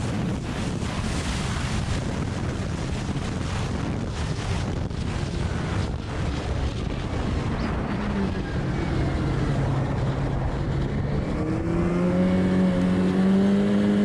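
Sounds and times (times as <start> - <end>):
heavy wind: 0.0 - 14.0
snowmobile engine running: 0.0 - 14.0
track rumble: 0.0 - 14.0.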